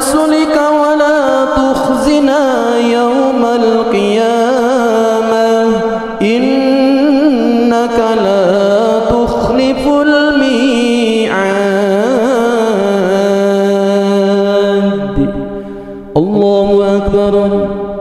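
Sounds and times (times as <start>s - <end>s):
man chanting recitation: 0.0s - 17.9s.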